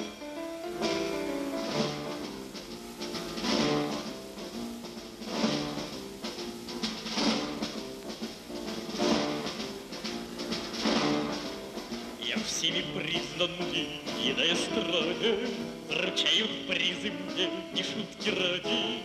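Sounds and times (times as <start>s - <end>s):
band playing sustained chords: 0.0s - 16.1s
drum kit accents: 0.0s - 19.0s.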